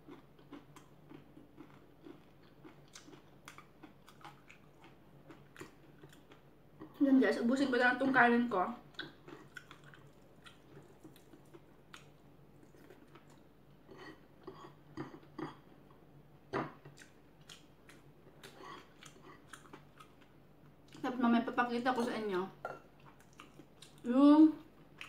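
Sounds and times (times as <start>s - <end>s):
person chewing food: 0.0s - 7.0s, 8.9s - 16.0s, 16.6s - 21.0s, 22.6s - 25.0s.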